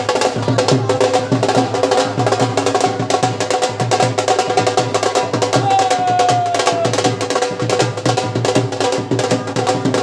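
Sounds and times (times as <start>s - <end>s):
drums played fast: 0.0s - 10.0s.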